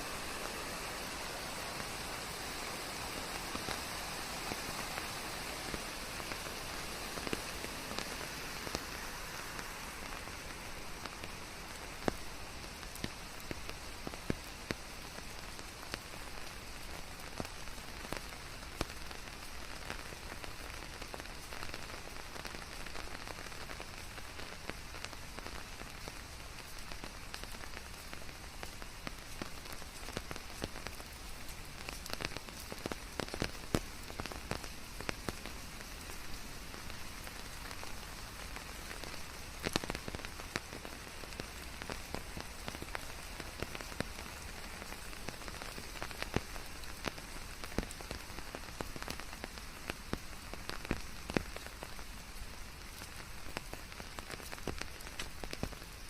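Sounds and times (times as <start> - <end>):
rain falling: 0.0 - 56.0
raindrops pattering on surfaces: 0.0 - 56.0.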